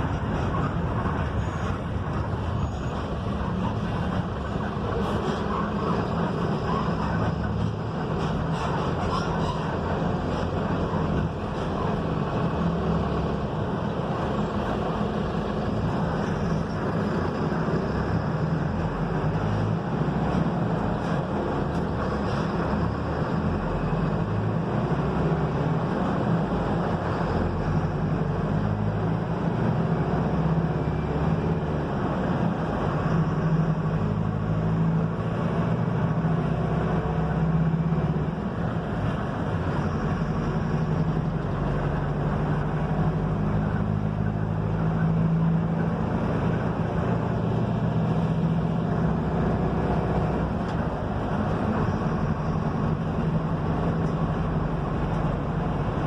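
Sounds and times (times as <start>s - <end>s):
bus diesel engine running: 0.0s - 56.0s
road noise: 0.0s - 56.0s.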